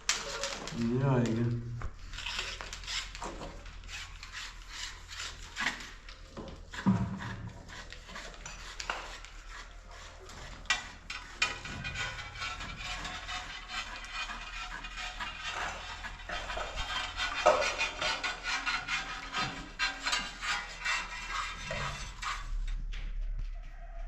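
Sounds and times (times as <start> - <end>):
hard objects scraping and knocking: 2.0 - 23.1.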